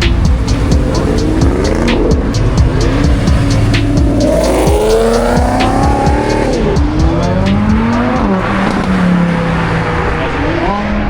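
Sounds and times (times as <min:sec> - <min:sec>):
music with steady beat: 0:00.0 - 0:09.6
car engines revving: 0:00.0 - 0:11.0.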